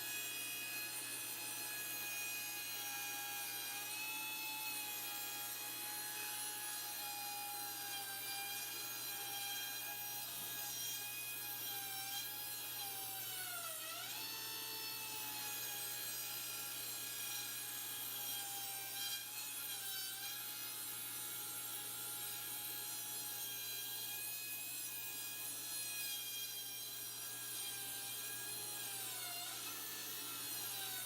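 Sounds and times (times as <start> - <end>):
power tool whining: 0.0 - 31.0.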